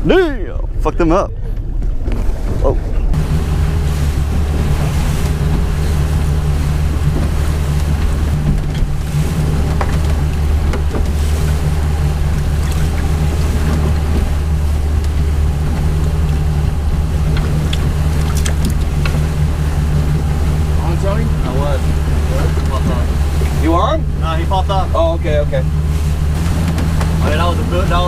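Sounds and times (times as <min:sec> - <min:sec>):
boat engine humming: 0:00.0 - 0:28.0
water rushing past: 0:00.0 - 0:28.0
wind: 0:00.0 - 0:28.0.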